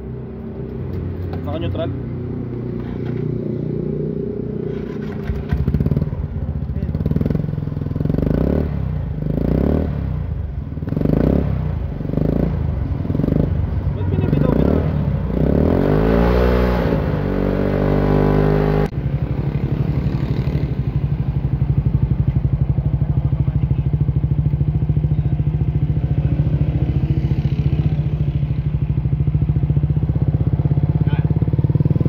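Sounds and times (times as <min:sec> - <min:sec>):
motorcycle engine revving and idling: 0:00.0 - 0:32.0.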